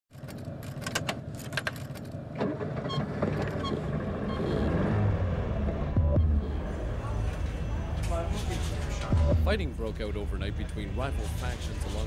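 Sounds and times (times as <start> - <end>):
car engine starting and idling: 0.2 - 10.6.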